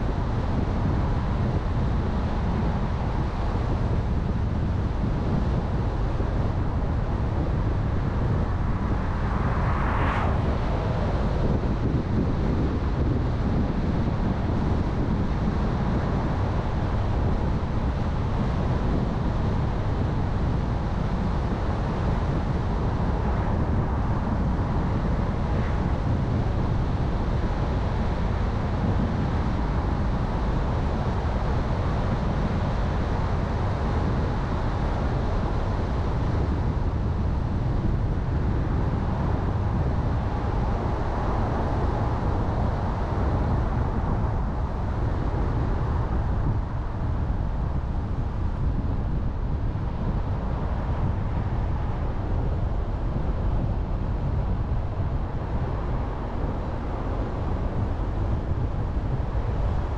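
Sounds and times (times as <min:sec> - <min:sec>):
car tyres and engine rumble: 0:00.0 - 0:59.9
wind noise: 0:00.0 - 0:59.9.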